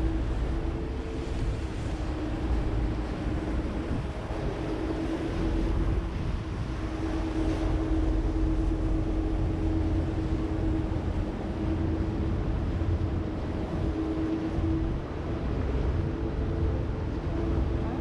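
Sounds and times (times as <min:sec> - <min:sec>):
boat engine rumbling: 0:00.0 - 0:18.0.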